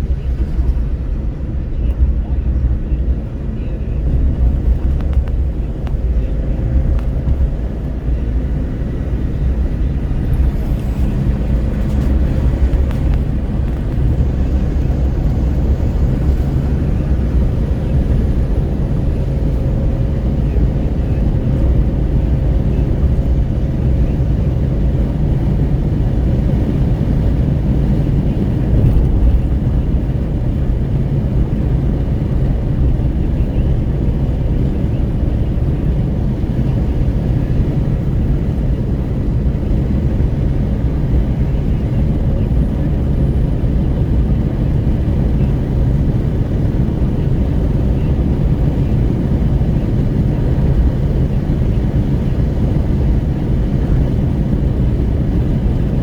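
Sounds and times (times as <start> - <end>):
tyre and engine rumble: 0.0 - 56.0
wind buffeting at car window: 0.0 - 56.0.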